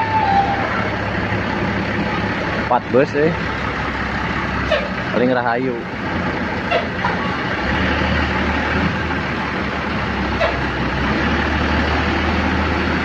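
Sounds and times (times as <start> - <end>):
bus diesel engine humming: 0.0 - 13.0
road noise: 0.0 - 13.0.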